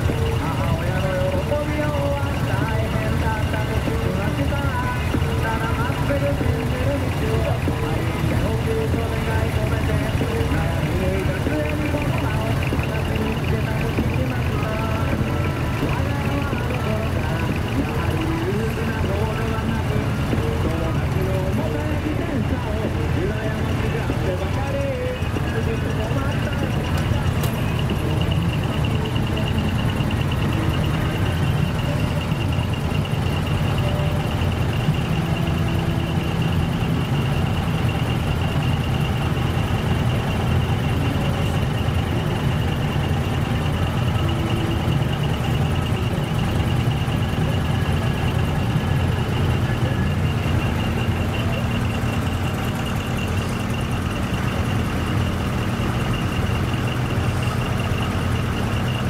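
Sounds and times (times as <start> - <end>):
diesel truck engines idling: 0.0 - 59.0
steady high-pitched tone: 0.0 - 59.0.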